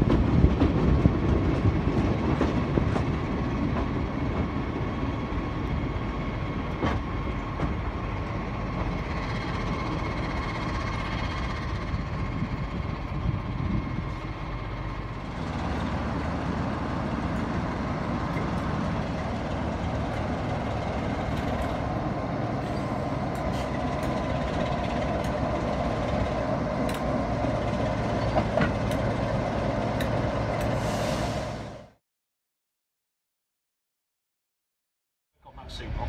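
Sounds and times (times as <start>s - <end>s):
diesel locomotive engine drone: 0.0s - 32.0s, 35.4s - 36.0s.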